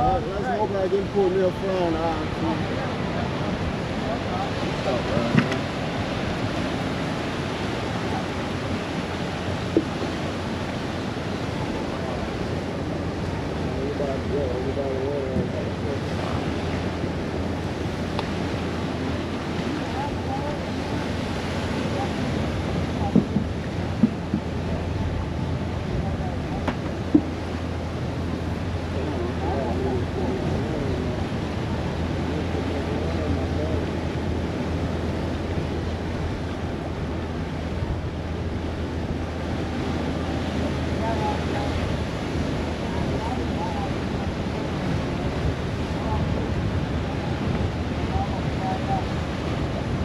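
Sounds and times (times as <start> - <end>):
ocean surf washing in: 0.0 - 50.0
wind rumble on microphone: 0.0 - 50.0.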